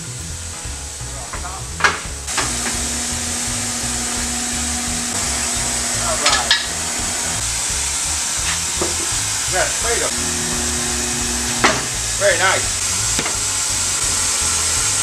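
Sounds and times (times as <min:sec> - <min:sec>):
constant hiss: 0:00.0 - 0:15.0
music with steady beat: 0:00.0 - 0:15.0.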